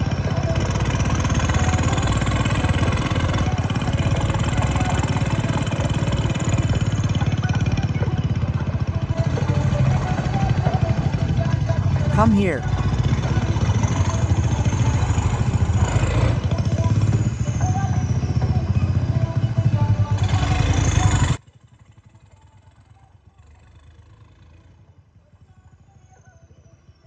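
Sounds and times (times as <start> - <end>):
diesel engine running: 0.0 - 26.2.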